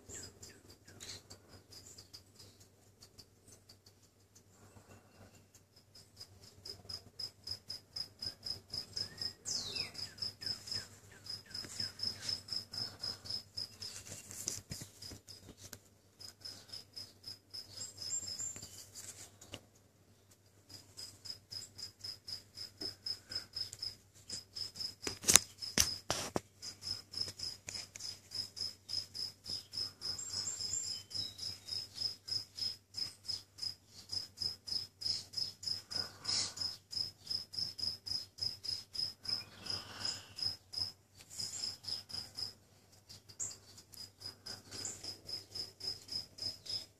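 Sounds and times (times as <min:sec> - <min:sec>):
cricket chirping: 0:00.0 - 0:19.3, 0:20.4 - 0:46.9.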